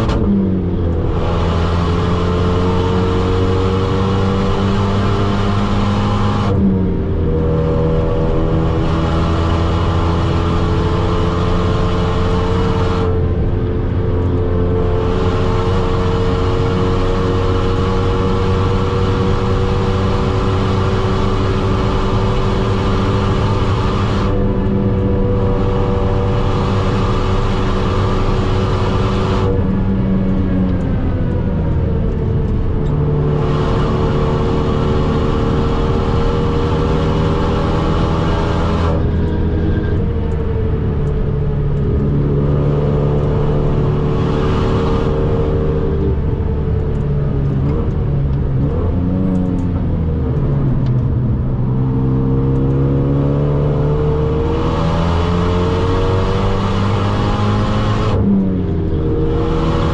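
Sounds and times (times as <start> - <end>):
car engine at speed: 0.0 - 59.9.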